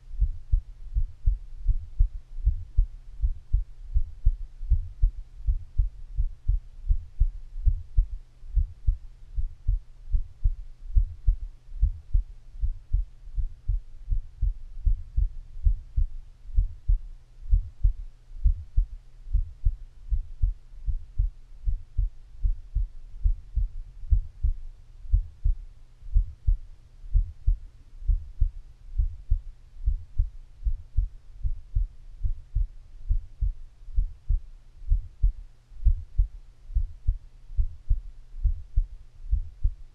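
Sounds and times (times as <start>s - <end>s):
low steady hum: 0.0s - 39.9s
heartbeat thumps: 0.1s - 39.9s.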